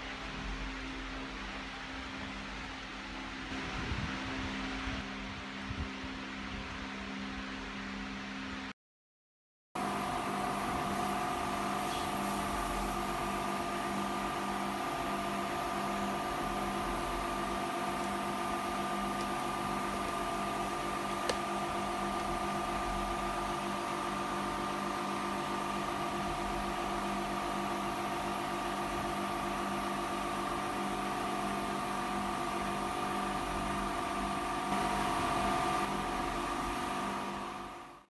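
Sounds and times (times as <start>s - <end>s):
bench machine hum with fan: 0.0s - 8.7s, 9.8s - 38.0s.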